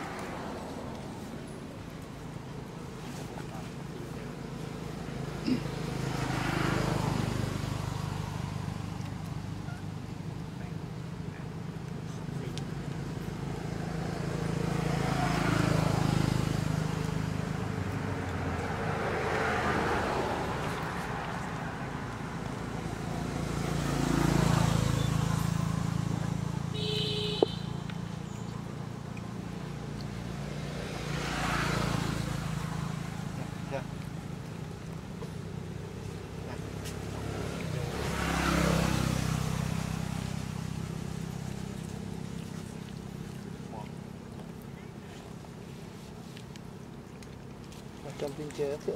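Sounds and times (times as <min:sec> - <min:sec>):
low traffic engine hum: 0:00.0 - 0:48.9
vehicles passing: 0:00.0 - 0:48.9.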